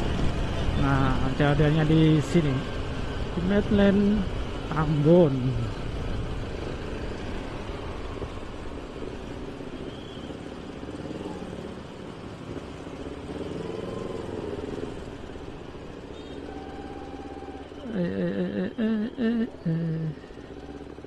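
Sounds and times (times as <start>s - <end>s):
motorcycle engine running at low revs: 0.0s - 21.0s.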